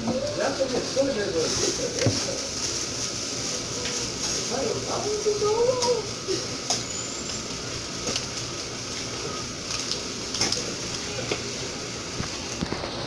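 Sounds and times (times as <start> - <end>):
shop background hiss: 0.0 - 13.0.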